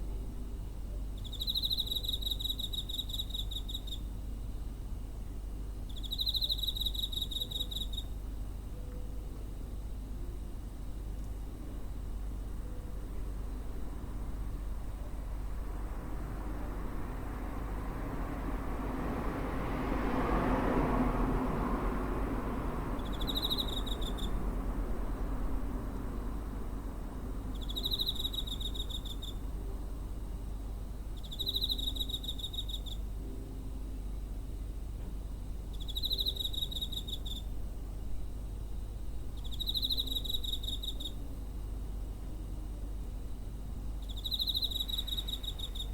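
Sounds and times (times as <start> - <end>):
cricket chirping: 0.0 - 45.9
steady low hum: 0.0 - 45.9.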